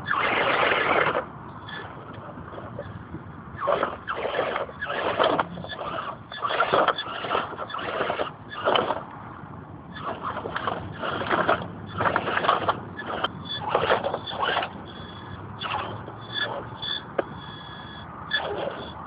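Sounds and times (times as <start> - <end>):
rc car motor bursts: 0.0 - 2.8, 3.6 - 9.1, 9.9 - 19.0.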